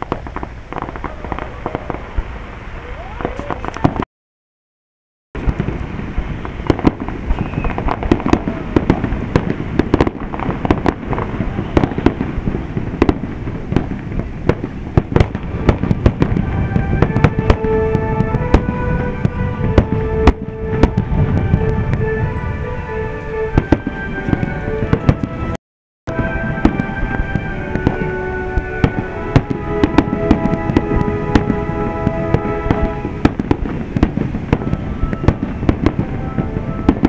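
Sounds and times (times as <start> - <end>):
fireworks bangs and crackling: 0.0 - 4.1, 5.4 - 37.0.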